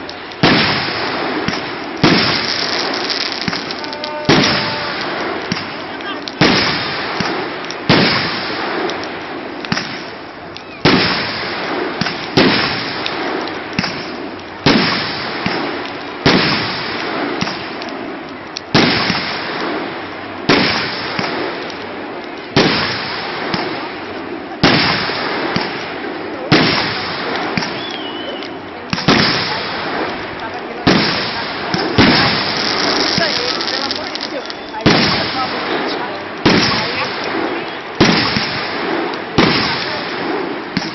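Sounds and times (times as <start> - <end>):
continuous noisy hiss: 0.0 - 40.9
fireworks bangs: 0.0 - 40.9.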